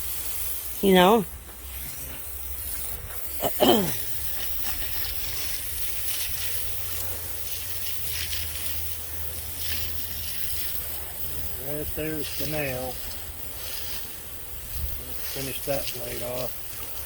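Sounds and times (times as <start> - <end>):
water spraying: 0.0 - 17.0.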